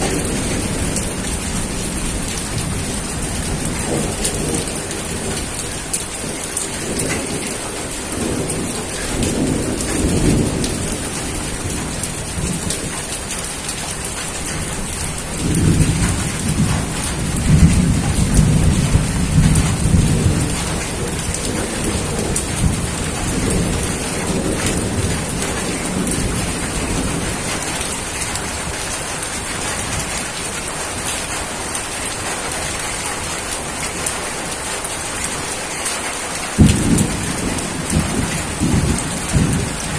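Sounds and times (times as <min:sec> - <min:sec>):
thunder rumbling: 0:00.0 - 0:33.6, 0:36.1 - 0:39.9
steady rain falling: 0:00.0 - 0:39.9.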